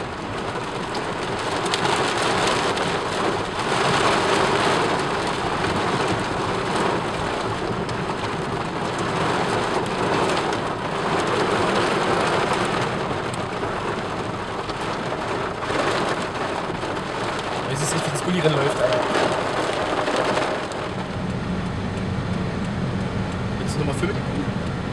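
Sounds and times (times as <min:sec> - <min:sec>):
heavy rain on car roof: 0:00.0 - 0:24.9.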